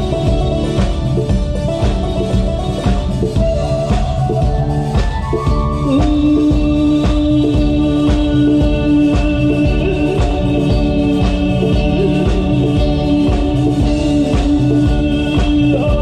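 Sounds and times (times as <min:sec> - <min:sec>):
drum kit beat: 0:00.0 - 0:16.0
electric bass: 0:00.0 - 0:16.0.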